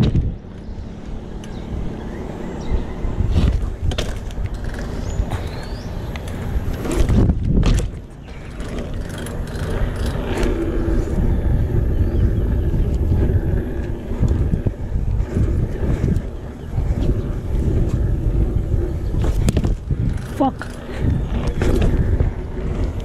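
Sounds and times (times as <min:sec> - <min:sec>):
bike tyres rumbling on ground: 0:00.0 - 0:23.0.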